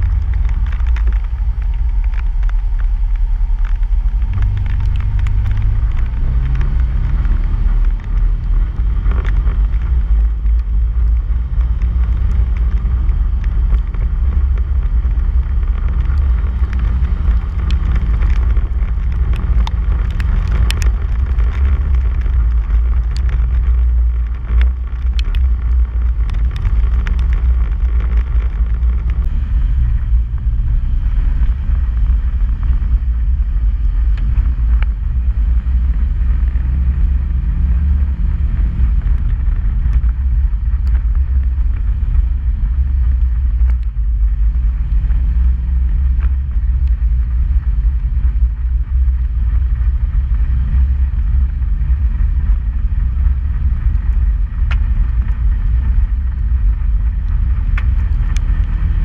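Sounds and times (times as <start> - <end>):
clicks and ticks from rocky track: 0.0 - 59.0
off-road vehicle engine drone: 0.0 - 59.0.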